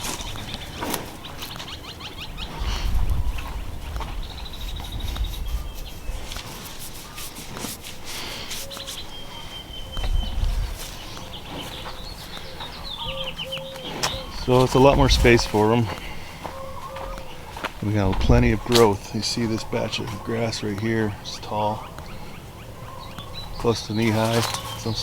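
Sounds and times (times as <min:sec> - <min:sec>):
footsteps crunching through dry weeds: 0:00.0 - 0:25.0
small birds chirping: 0:00.0 - 0:25.0
wind gusts on microphone: 0:02.1 - 0:07.5, 0:09.6 - 0:25.0.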